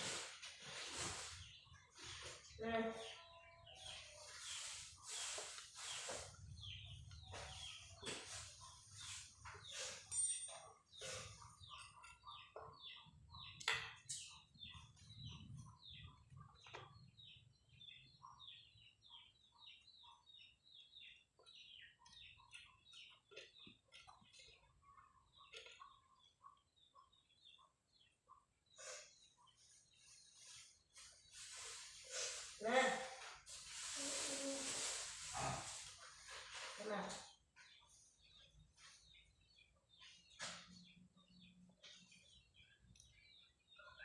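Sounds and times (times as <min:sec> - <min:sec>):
small birds chirping: 0:00.2 - 0:44.0.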